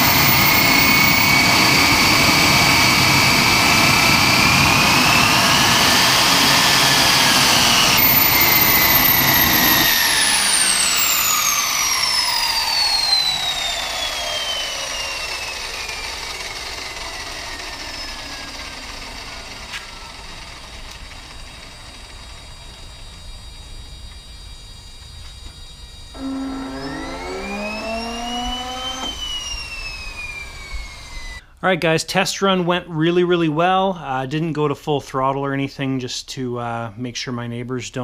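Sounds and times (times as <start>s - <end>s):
turbine whine spooling down: 0.0s - 31.4s
turboprop engine rumble: 0.0s - 31.4s.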